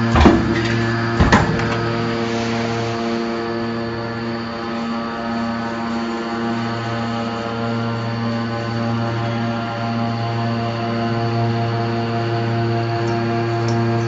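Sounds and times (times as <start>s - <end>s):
hydraulic baler humming: 0.0s - 14.0s.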